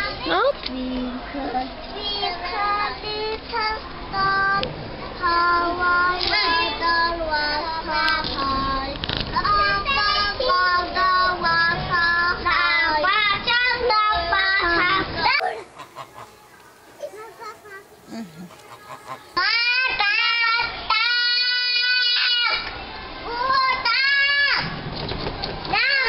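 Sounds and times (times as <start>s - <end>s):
child singing: 1.6s - 15.4s, 17.0s - 24.6s, 25.7s - 26.0s.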